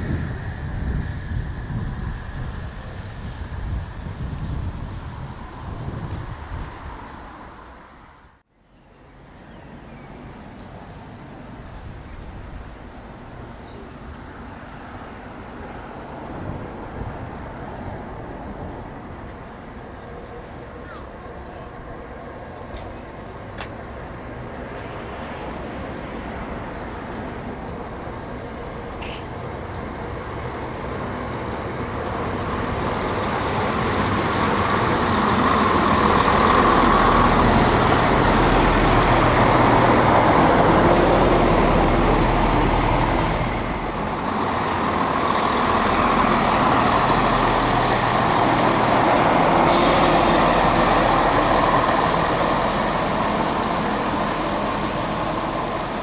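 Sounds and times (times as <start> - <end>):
diesel train approaching: 0.0 - 56.0.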